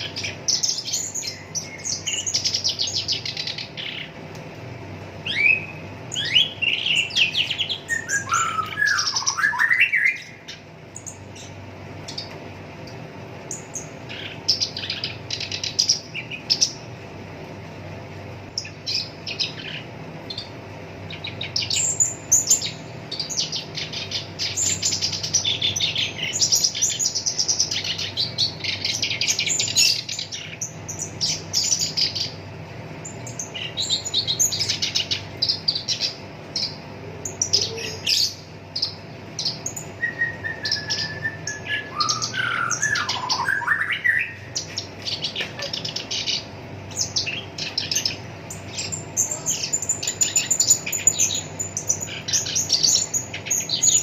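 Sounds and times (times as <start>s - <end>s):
warbler singing scratchy phrases: 0.0s - 54.0s.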